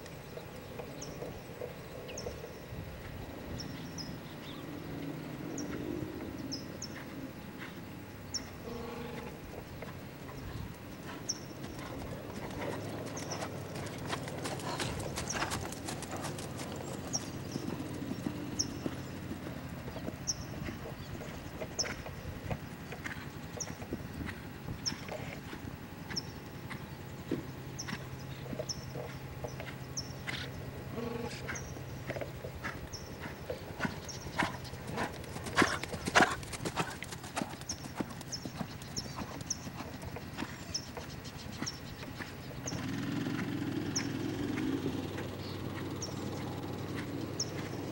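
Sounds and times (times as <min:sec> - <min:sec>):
hoofbeats on sand: 0:08.4 - 0:47.9.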